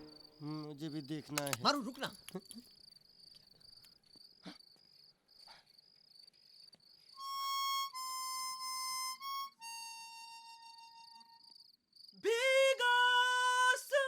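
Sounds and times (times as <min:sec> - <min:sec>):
crickets chirping: 0:00.0 - 0:09.2, 0:10.3 - 0:14.0.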